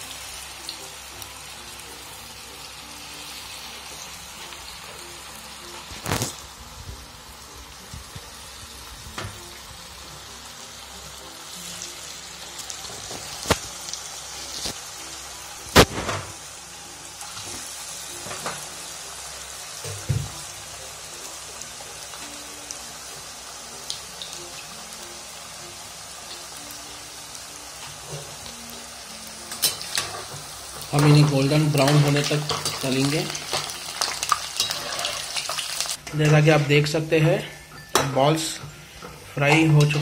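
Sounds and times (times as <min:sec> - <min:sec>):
food sizzling in hot oil: 0:00.0 - 0:40.0.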